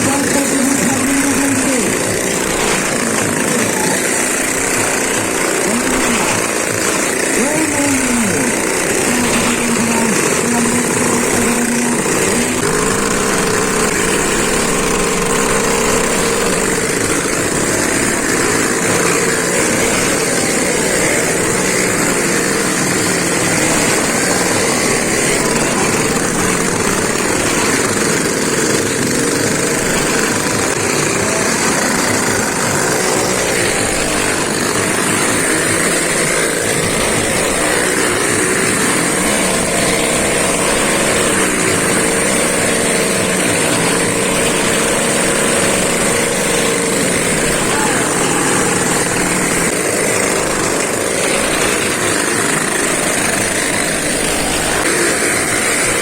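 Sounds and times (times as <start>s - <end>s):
motorcycle engines droning: 0.0s - 56.0s.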